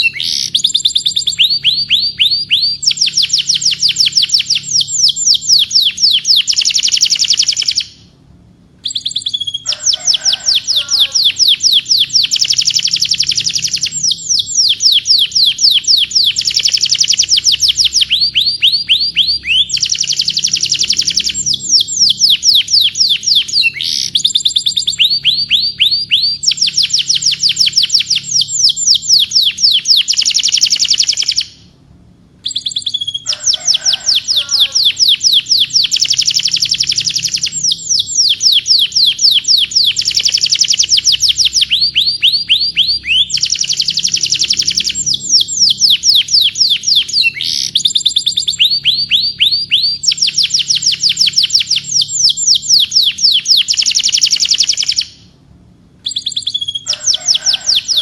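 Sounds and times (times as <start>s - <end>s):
canary singing trills: 0.0s - 8.2s, 8.8s - 31.8s, 32.4s - 55.3s, 56.0s - 58.0s.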